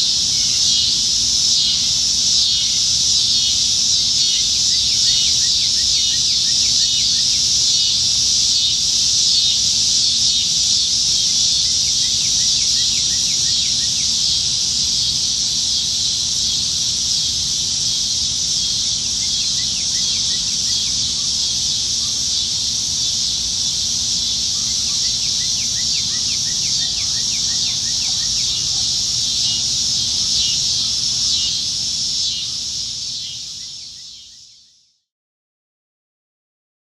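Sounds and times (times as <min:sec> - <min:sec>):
cicadas buzzing: 0:00.0 - 0:34.8.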